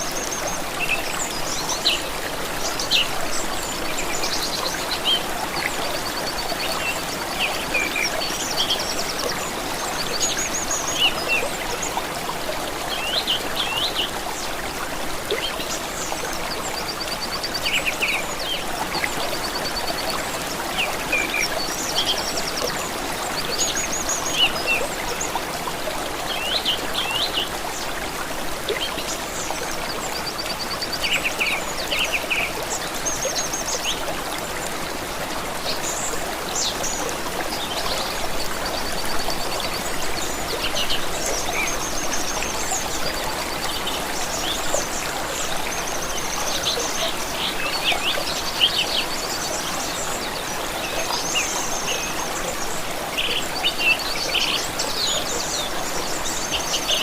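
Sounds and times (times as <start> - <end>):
stream of water flowing: 0.0 - 57.0.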